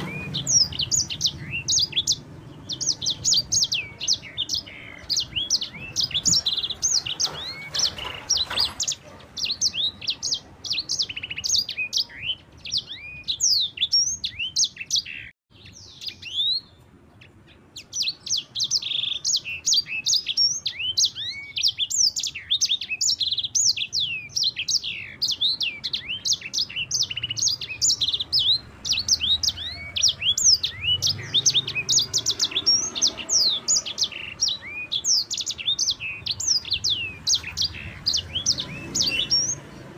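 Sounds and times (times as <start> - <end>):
songbird singing rapid chirps: 0.0 - 39.9.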